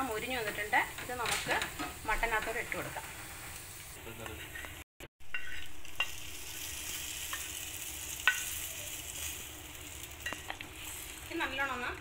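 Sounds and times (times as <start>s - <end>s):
garlic and oil sizzling: 0.0s - 12.0s.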